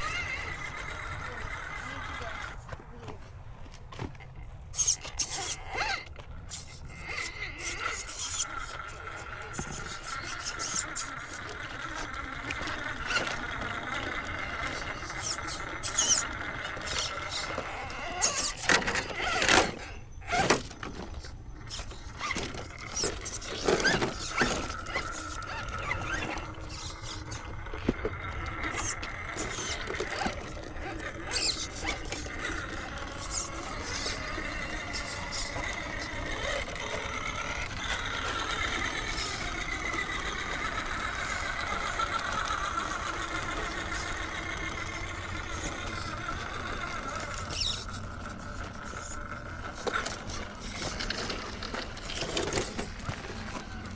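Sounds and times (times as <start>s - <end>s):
electric motors whining: 0.0s - 53.9s.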